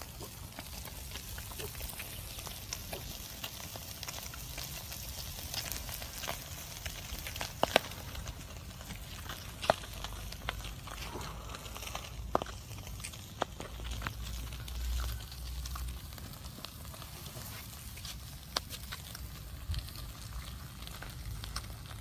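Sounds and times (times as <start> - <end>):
sharp pops from fire: 0.0 - 22.0
wood fire crackling and hissing: 0.0 - 22.0.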